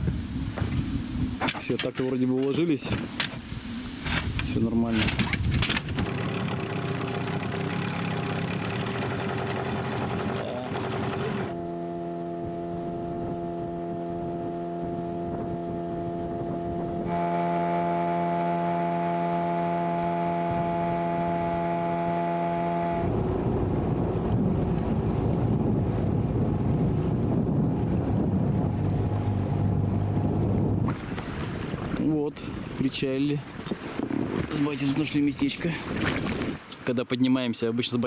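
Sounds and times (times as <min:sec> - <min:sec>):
wind on microphone: 0:00.0 - 0:01.7, 0:02.8 - 0:18.1, 0:20.1 - 0:21.8, 0:22.8 - 0:36.7
water noise: 0:00.0 - 0:37.1
outboard motor humming: 0:05.4 - 0:36.8.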